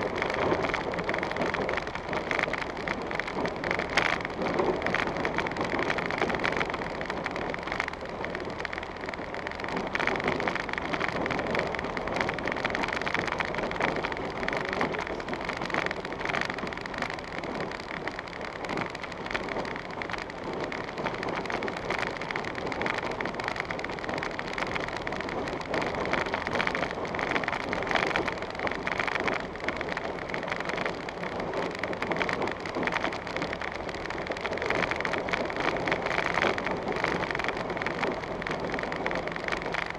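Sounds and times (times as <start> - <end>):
vehicle driving on rough track: 0.0 - 39.9.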